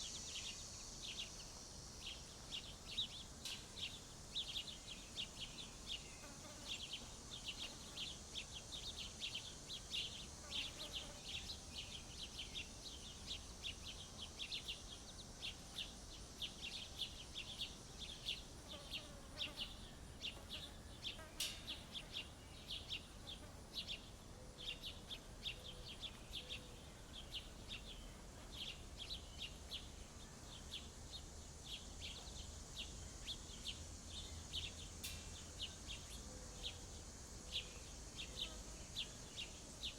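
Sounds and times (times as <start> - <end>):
high insect drone: 0.0 - 39.9
small songbirds chirping: 0.0 - 39.9.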